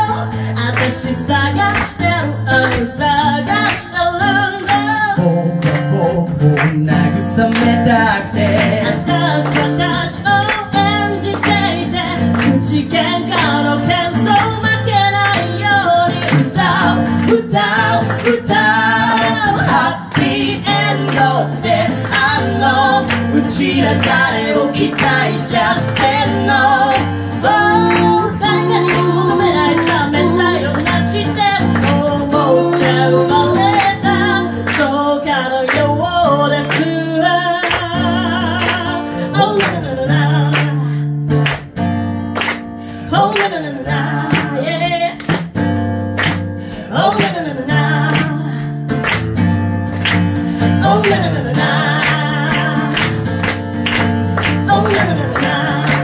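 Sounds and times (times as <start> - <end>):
woman singing into microphone: 0.0 - 41.1, 42.8 - 45.5, 46.6 - 48.9, 50.6 - 53.4, 54.3 - 56.0
strummed acoustic guitar: 0.0 - 56.0.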